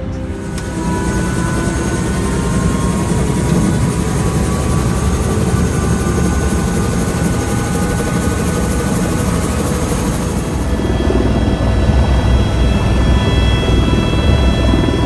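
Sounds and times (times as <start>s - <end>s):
faint high whine: 0.0s - 15.0s
helicopter engine and rotor drone: 0.0s - 15.0s.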